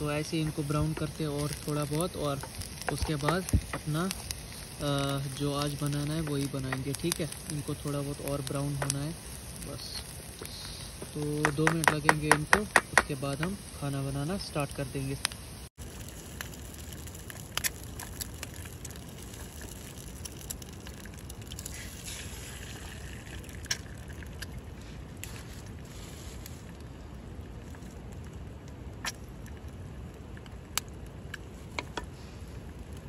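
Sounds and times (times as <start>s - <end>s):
eggs sizzling in a pan: 0.0s - 26.8s.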